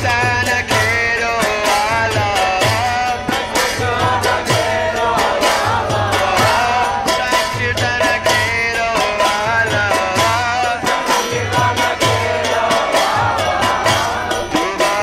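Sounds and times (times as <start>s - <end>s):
drum beats: 0.0s - 15.0s
group singing along: 0.0s - 15.0s
hand cymbals clashing: 0.0s - 15.0s
man singing into microphone: 0.0s - 15.0s.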